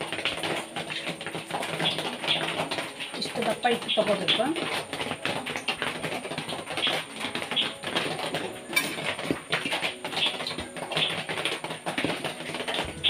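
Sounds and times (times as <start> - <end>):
birds chirping: 0.0 - 5.8, 6.5 - 11.6
hands patting dough: 0.0 - 13.0
rolling pin on metal plate: 0.0 - 13.0.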